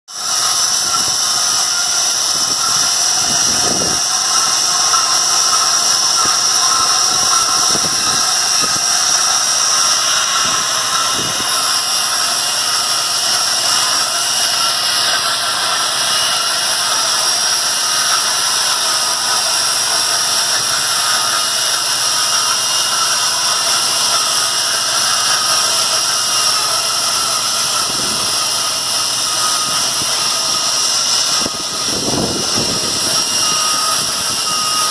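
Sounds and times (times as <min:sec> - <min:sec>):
machinery whine and hiss: 0:00.2 - 0:34.9.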